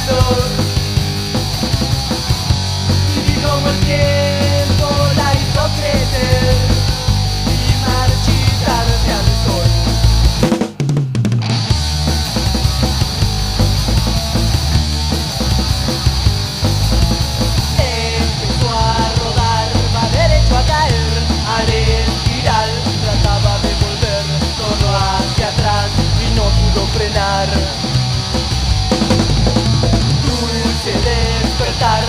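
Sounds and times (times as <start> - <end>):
sliding guitar lead line: 0.0 - 10.5, 11.3 - 32.0
punk rock band playing: 0.0 - 32.0.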